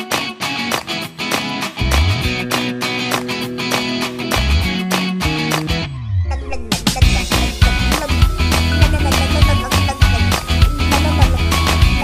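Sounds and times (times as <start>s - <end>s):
background music with sharp beats: 0.0s - 6.0s, 6.6s - 12.0s.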